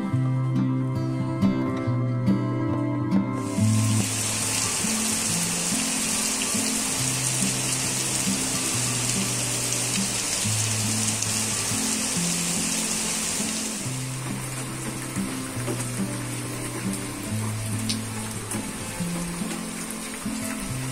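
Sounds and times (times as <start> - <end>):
soft music with held bass notes: 0.0 - 20.9
steady rain falling: 3.4 - 20.9.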